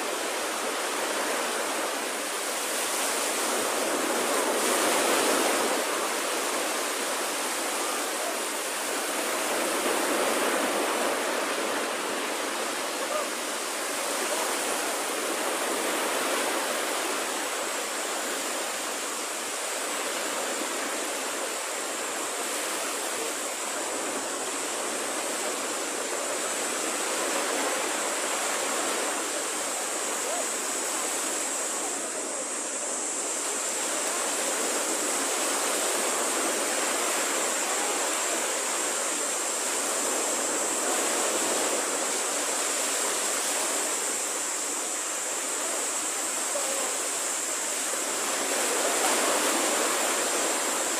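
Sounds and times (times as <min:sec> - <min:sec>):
small waves breaking on a beach: 0:00.0 - 0:50.9
steady high hiss: 0:00.0 - 0:50.9.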